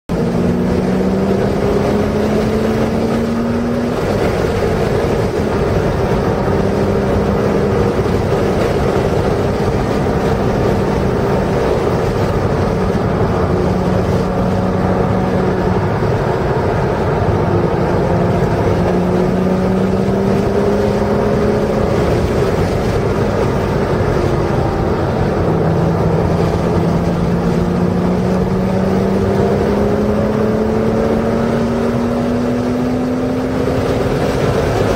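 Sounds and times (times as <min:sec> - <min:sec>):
race car engine: 0:00.1 - 0:34.9
wind and road noise: 0:00.1 - 0:34.9.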